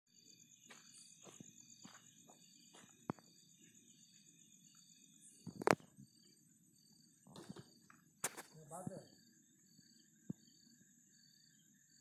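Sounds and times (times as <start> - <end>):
crickets trilling: 0.1 - 12.0.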